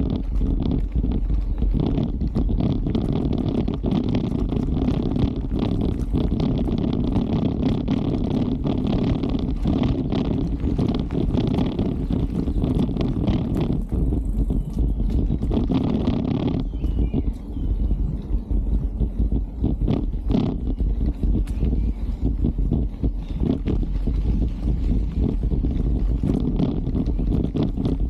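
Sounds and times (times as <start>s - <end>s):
mountain bike rumbling and rattling: 0.0s - 28.0s.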